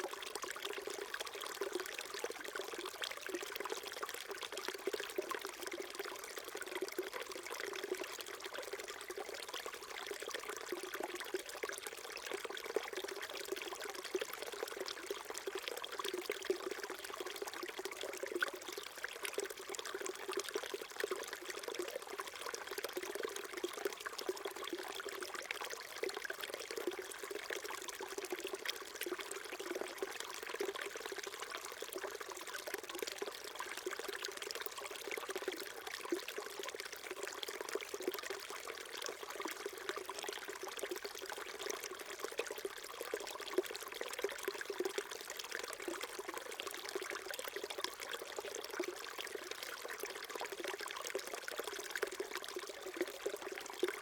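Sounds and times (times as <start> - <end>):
stream burbling over rocks: 0.0 - 54.0.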